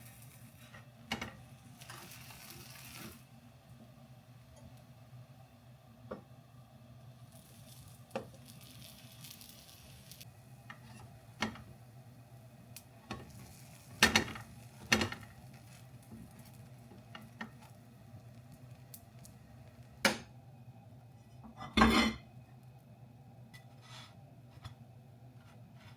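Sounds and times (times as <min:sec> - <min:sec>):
frying sizzle: 0:00.0 - 0:21.2.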